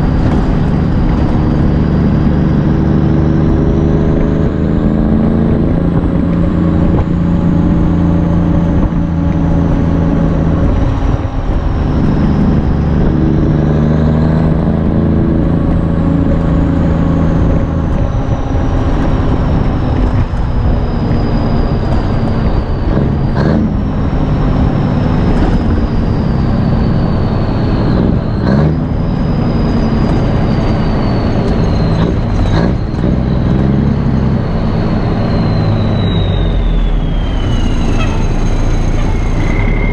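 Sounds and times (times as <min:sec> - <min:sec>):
diesel truck engine pulling hard: 0:00.0 - 0:39.9
turbo whine: 0:00.0 - 0:39.9.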